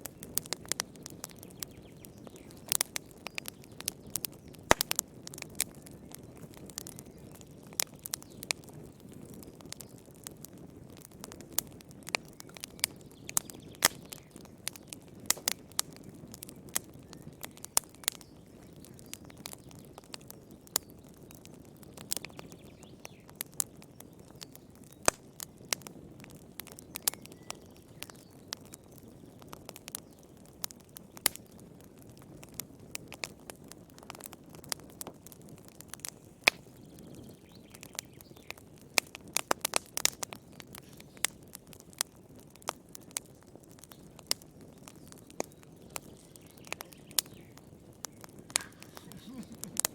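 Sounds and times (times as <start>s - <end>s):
low rumble of flame: 0.0s - 49.9s
wood fire crackling and popping: 0.0s - 49.9s.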